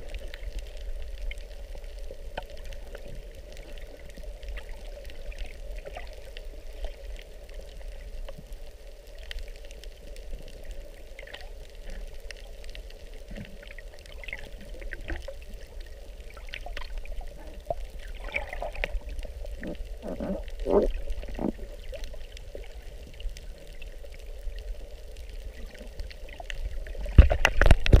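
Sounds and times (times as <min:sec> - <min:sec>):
underwater gurgles: 0:00.0 - 0:28.0
underwater sea rumble: 0:00.0 - 0:28.0.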